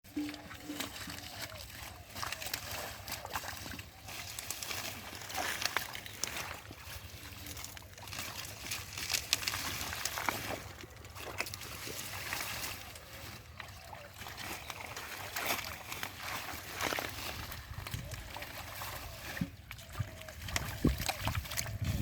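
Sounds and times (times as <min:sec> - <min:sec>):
muddy water sloshing and splashing: 0:00.0 - 0:22.0.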